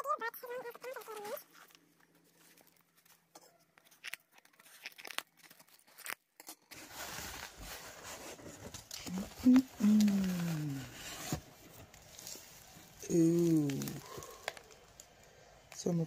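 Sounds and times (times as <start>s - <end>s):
cardboard and paper rustling: 0.2s - 15.3s.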